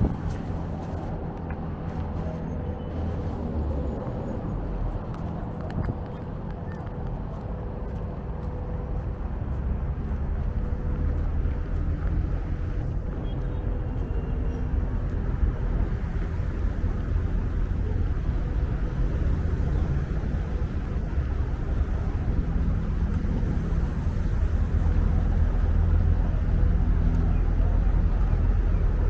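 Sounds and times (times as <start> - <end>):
street traffic: 0.0 - 29.0
strong wind buffeting microphone: 0.0 - 29.0.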